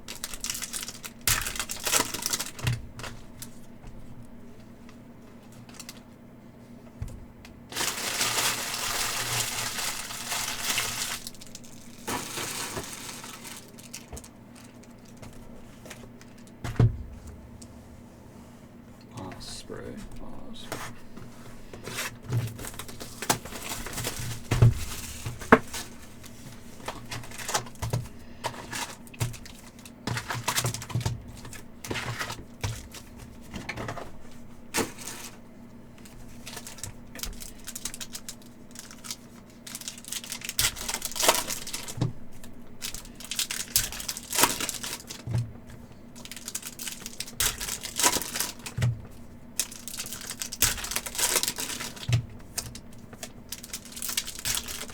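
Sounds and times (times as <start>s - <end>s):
wrappers crinkling and tearing: 0.0s - 3.7s, 4.8s - 6.1s, 7.7s - 16.6s, 21.8s - 54.9s.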